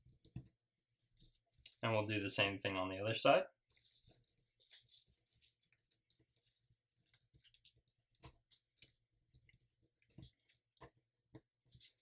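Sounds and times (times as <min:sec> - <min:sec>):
paper rustling as folded: 0:00.0 - 0:01.9, 0:03.6 - 0:12.0.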